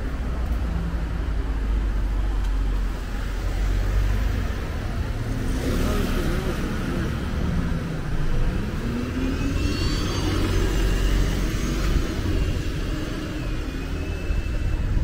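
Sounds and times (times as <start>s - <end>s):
bus driving past: 0.0s - 15.0s
street traffic: 0.0s - 15.0s.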